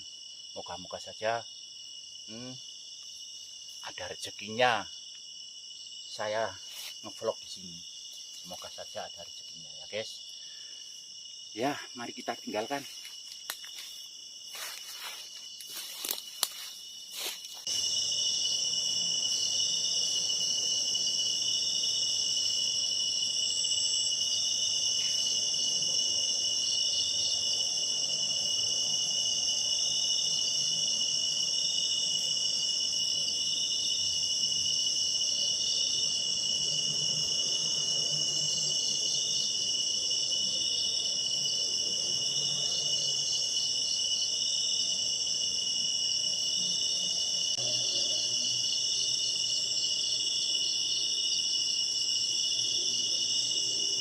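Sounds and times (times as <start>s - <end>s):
crickets and insects chirping: 0.0s - 54.0s.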